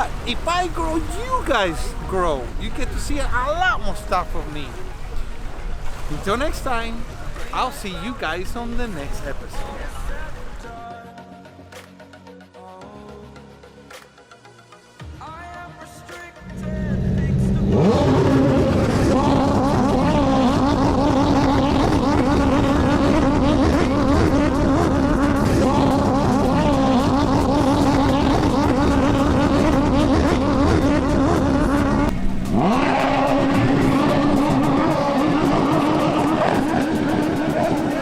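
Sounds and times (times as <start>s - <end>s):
jet-ski engines revving: 0.0s - 10.8s, 16.5s - 38.0s.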